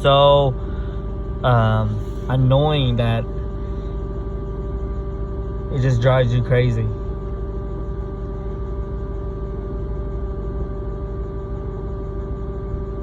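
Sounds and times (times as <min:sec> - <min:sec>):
loud buzzing hum: 0:00.0 - 0:13.0.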